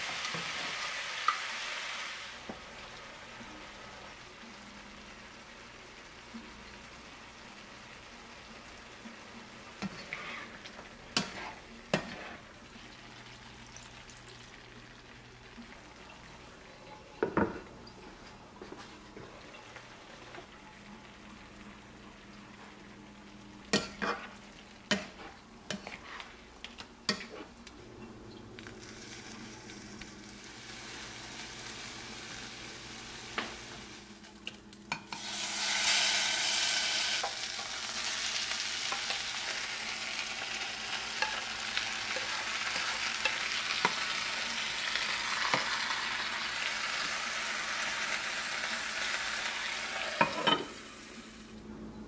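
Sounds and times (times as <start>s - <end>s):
vegetables sizzling in a wok: 0.0s - 17.6s, 19.2s - 27.8s, 28.6s - 51.6s.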